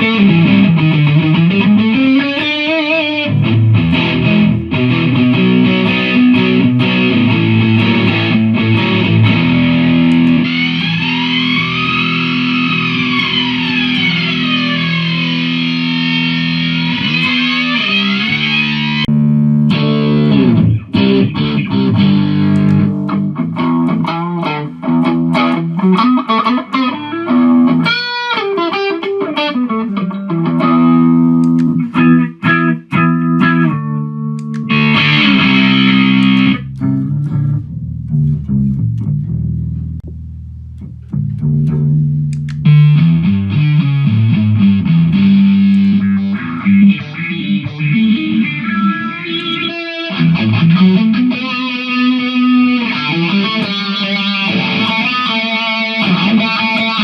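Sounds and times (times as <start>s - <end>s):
distorted electric guitar: 0.0s - 57.0s
electric guitar lead lines: 0.0s - 57.0s.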